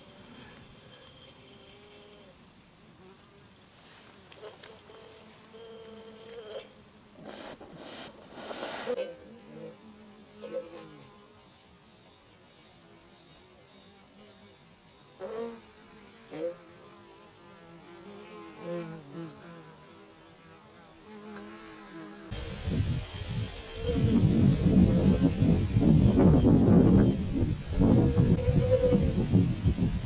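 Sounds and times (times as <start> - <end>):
bees and wasp buzzing: 0.0 - 11.5, 12.6 - 30.0.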